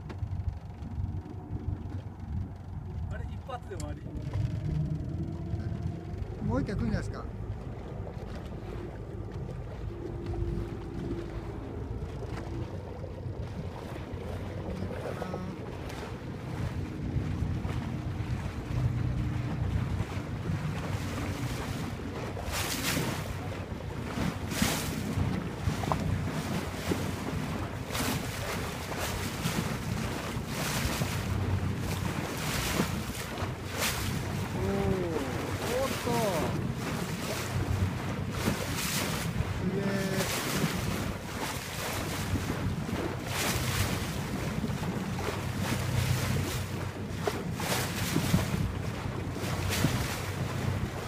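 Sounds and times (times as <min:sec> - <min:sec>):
boat engine running: 0:00.0 - 0:51.0
sea wash: 0:00.0 - 0:51.0
water sloshing against hull: 0:00.0 - 0:51.0
wind buffeting microphone: 0:00.0 - 0:51.0.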